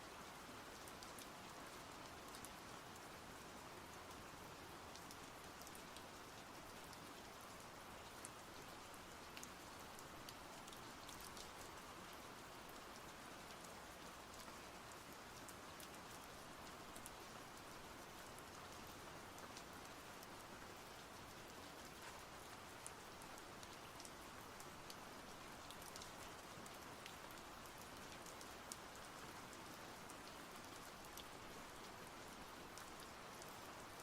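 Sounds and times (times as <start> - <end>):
faint steady rain: 0.0 - 34.0.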